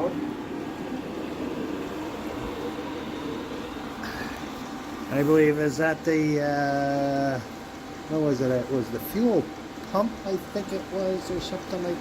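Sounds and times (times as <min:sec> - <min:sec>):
heater blower fan roaring: 0:00.0 - 0:12.0.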